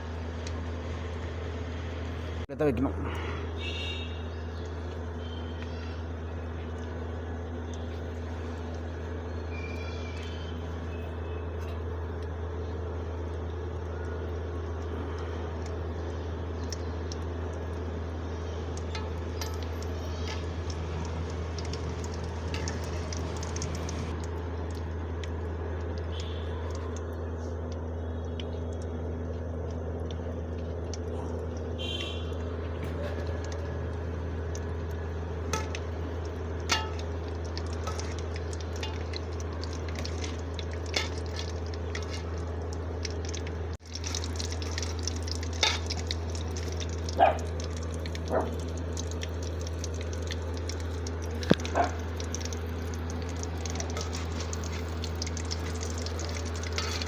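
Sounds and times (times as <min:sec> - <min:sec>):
food deep-frying in oil: 0:00.0 - 0:02.4, 0:03.5 - 0:57.0
low hum: 0:00.0 - 0:57.0.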